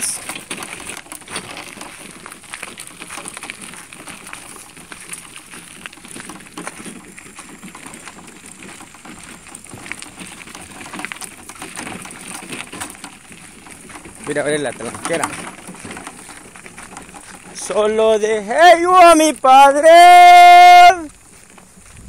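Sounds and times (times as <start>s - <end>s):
footsteps on dirt track: 0.0s - 22.0s.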